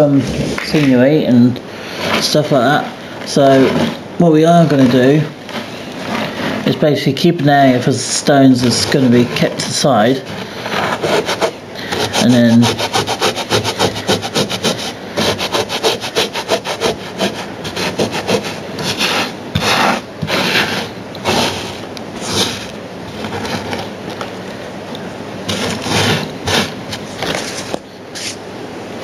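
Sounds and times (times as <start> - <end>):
stones scraping across wooden board: 1.8 - 24.4, 25.5 - 28.4.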